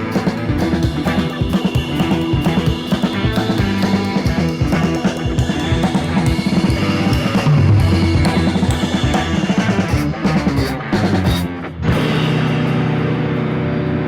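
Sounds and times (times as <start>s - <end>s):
bass: 0.0s - 14.0s
distorted electric guitar: 0.0s - 14.0s
drums: 0.0s - 14.0s.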